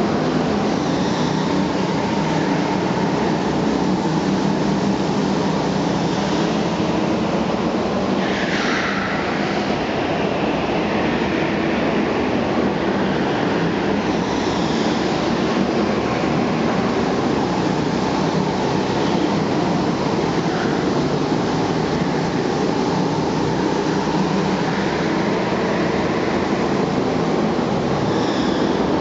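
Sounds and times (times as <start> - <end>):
go-kart engines running: 0.0 - 29.0.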